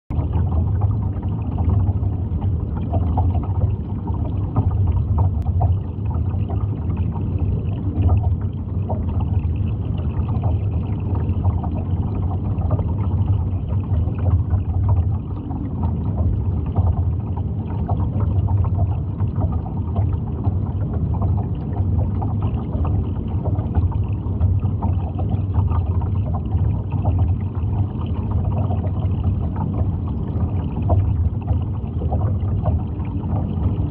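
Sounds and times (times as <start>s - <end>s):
underwater clicks and ticks: 0.1s - 33.9s
underwater rumble: 0.1s - 33.9s.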